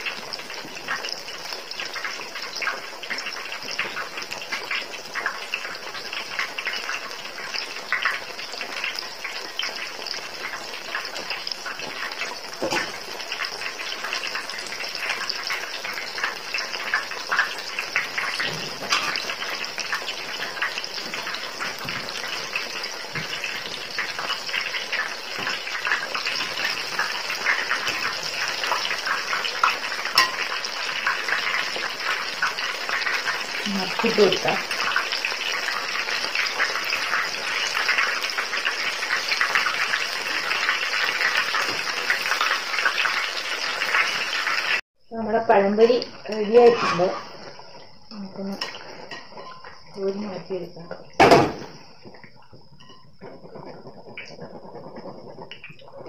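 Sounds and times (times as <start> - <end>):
batter frying in hot oil: 0.0 - 56.0.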